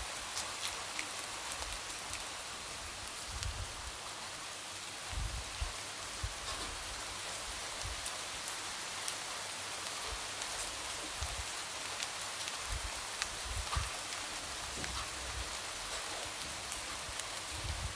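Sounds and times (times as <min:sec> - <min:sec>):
light rain falling: 0:00.0 - 0:17.9.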